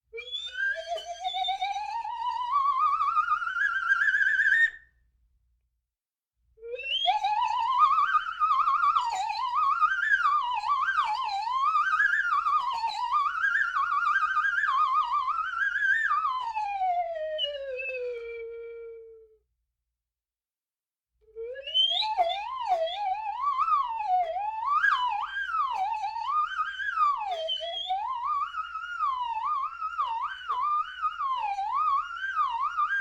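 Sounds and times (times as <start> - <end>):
slide whistle with vibrato: 0.1 - 4.9, 6.6 - 19.4, 21.3 - 33.0.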